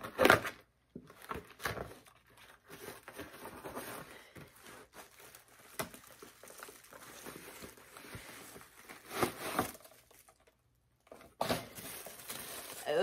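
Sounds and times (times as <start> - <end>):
gift wrapping crinkling and tearing: 0.0 - 10.6, 11.3 - 13.0.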